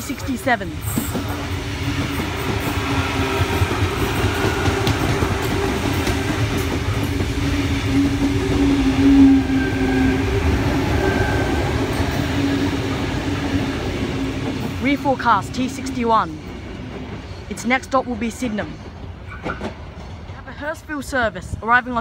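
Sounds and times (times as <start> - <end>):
train wheels rumbling on rail: 0.0 - 22.0
train motor hum: 0.2 - 18.2.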